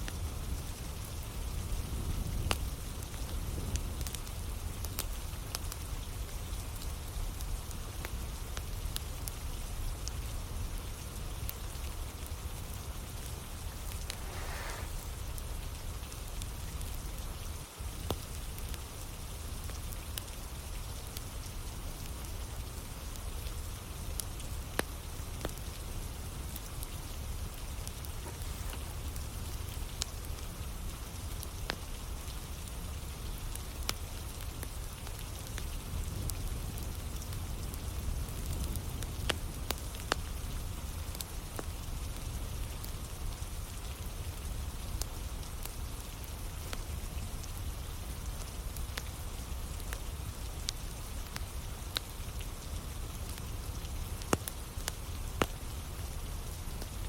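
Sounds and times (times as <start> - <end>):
steady rain falling: 0.0 - 57.0
wood fire crackling and popping: 0.1 - 43.0, 43.7 - 57.0.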